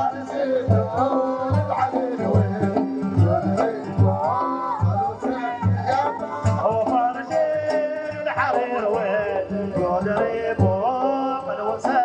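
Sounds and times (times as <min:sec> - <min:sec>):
low hand drum beats: 0:00.0 - 0:12.0.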